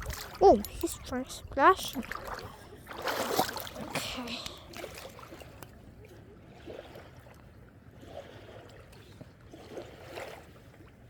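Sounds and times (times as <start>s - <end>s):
faint water sounds: 0.0s - 11.0s.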